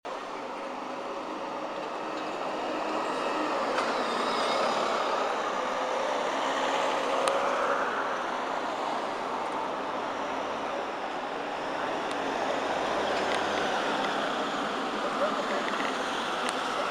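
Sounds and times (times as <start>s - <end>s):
bus engine and road noise: 0.1s - 16.9s.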